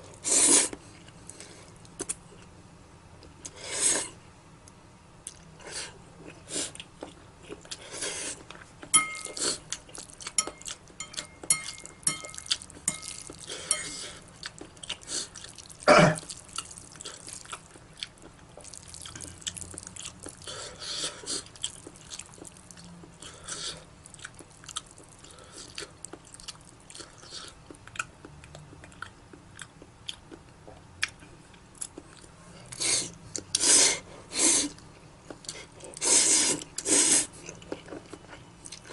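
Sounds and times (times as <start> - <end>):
person chewing noodles: 5.2 - 38.9.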